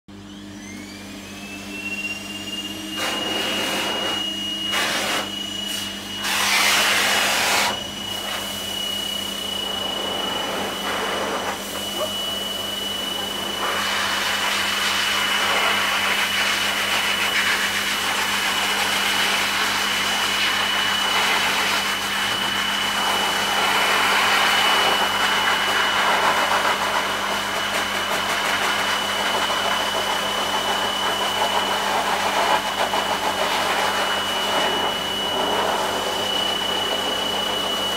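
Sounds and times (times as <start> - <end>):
pet dryer motor whine: 0.1 - 37.9
rush of air from blower: 0.5 - 37.9.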